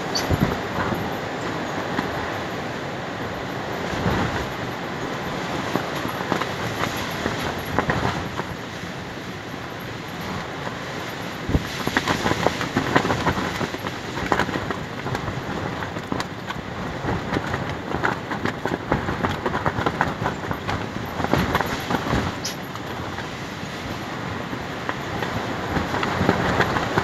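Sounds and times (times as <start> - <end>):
fabric sheet flapping in wind: 0.0 - 27.0
wind rumbling on microphone: 0.0 - 27.0.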